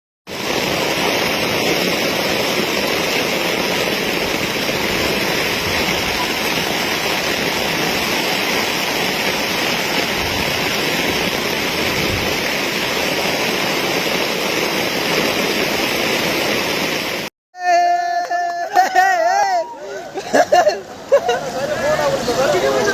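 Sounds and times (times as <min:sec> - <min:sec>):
steady rush of water: 0:00.3 - 0:17.3, 0:18.3 - 0:22.9.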